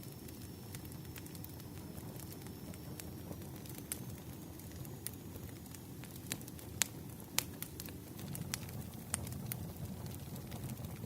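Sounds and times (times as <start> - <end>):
firewood crackling and popping: 0.0 - 11.0
low rumble of fire: 0.0 - 11.0.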